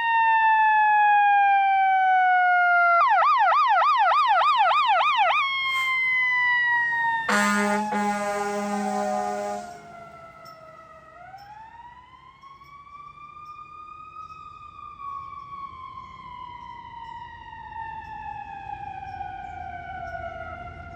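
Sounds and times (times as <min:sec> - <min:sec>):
fire truck siren wailing: 0:00.0 - 0:20.9.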